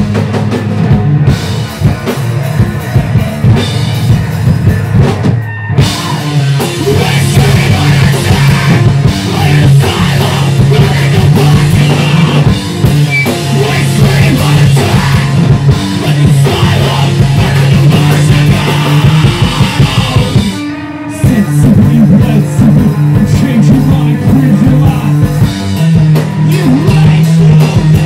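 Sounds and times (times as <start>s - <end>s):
drum kit with cymbals: 0.0s - 28.0s
electric guitar: 0.0s - 28.0s.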